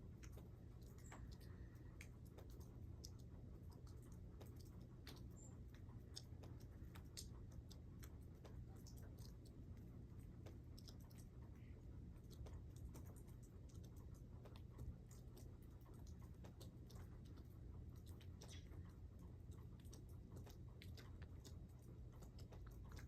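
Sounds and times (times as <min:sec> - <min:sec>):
faint ticks and clicks: 0:00.0 - 0:23.0
low steady hum: 0:00.0 - 0:23.0.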